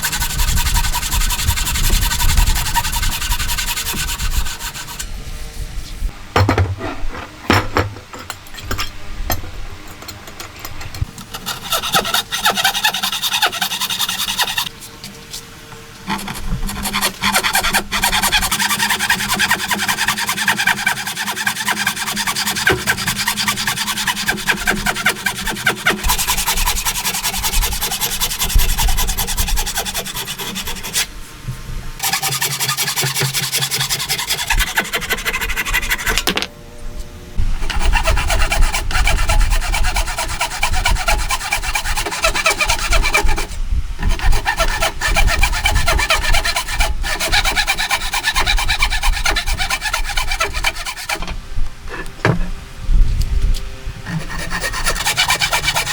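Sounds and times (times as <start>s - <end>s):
hand tool scraping wood: 0.0s - 5.2s, 6.4s - 8.3s, 11.0s - 14.7s, 16.1s - 31.1s, 32.0s - 36.5s, 37.6s - 52.5s, 54.0s - 55.9s.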